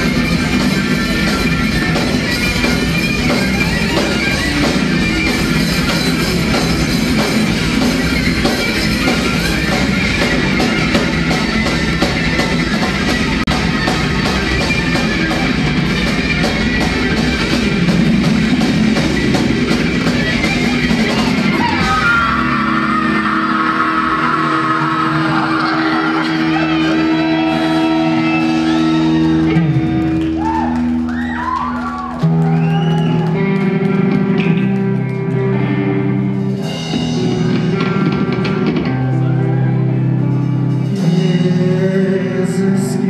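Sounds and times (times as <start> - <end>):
bass guitar: 0.0 - 43.0
drum kit: 0.0 - 43.0
electric guitars: 0.0 - 43.0.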